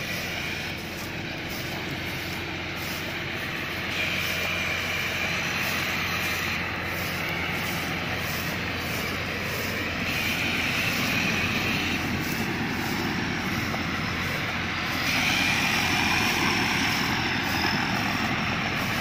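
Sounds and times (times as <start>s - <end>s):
combine harvester engine running: 0.0s - 19.0s
high mechanical whine: 0.0s - 19.0s.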